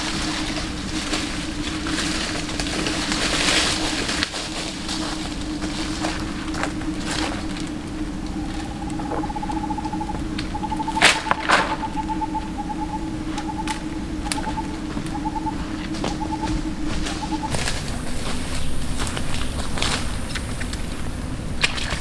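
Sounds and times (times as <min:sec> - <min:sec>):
fast pulsing trill: 0:00.0 - 0:21.6
leaves rustling: 0:00.0 - 0:22.0
steady low hum: 0:00.0 - 0:22.0.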